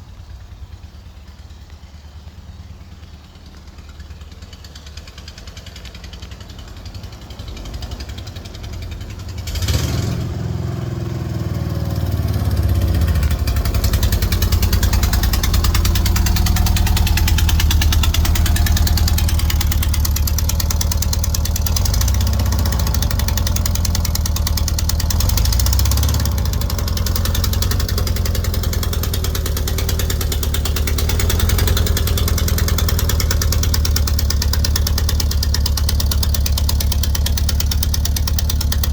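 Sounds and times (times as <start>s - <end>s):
van engine running: 0.0s - 38.9s.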